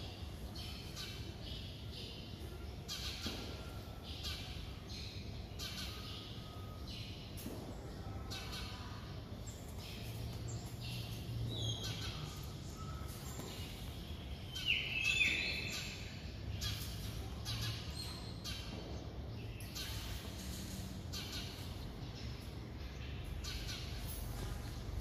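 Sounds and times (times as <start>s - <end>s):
birds calling: 0.3s - 25.0s.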